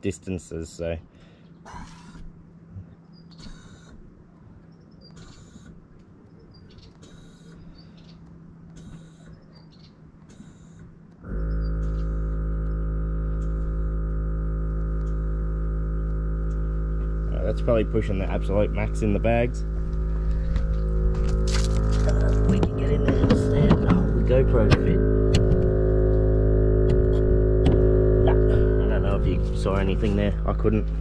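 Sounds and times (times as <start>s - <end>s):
air compressor humming: 1.0s - 4.5s, 5.1s - 6.0s, 7.0s - 31.0s.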